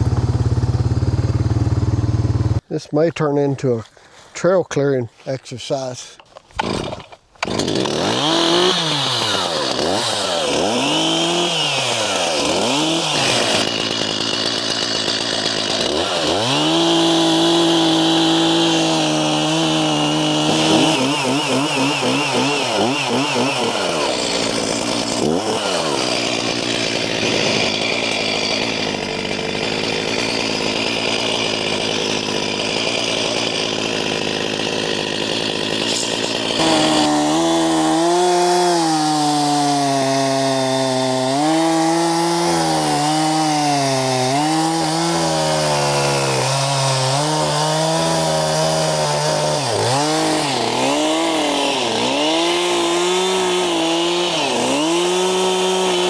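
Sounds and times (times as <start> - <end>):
chainsaw revving: 0.0 - 2.6, 6.6 - 56.0.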